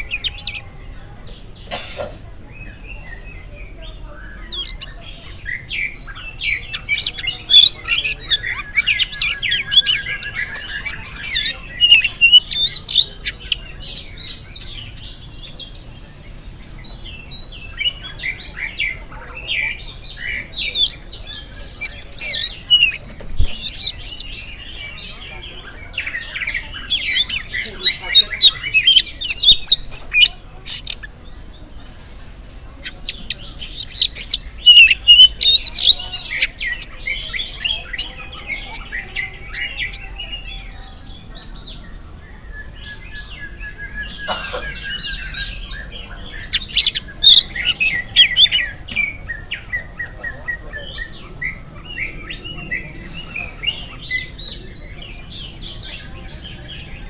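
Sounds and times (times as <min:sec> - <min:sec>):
bird singing whistles and chatter: 0:00.0 - 0:32.1, 0:32.7 - 0:57.0.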